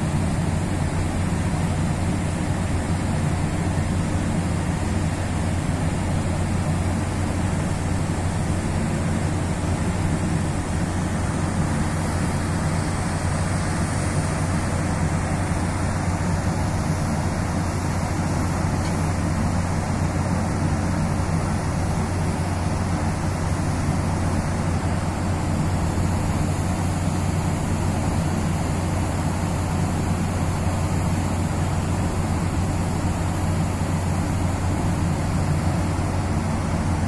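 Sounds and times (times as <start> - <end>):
ship engines humming: 0.0 - 37.0.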